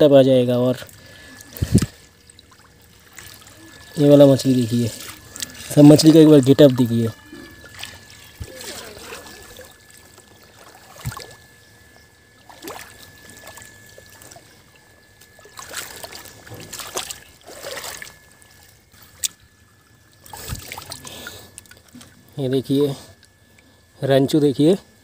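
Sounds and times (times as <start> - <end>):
water trickling and splashing: 0.0 - 23.9.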